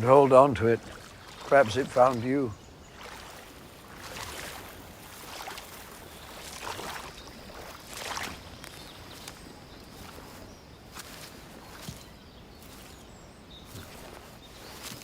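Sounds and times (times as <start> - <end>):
water sloshing and lapping: 0.0 - 15.0.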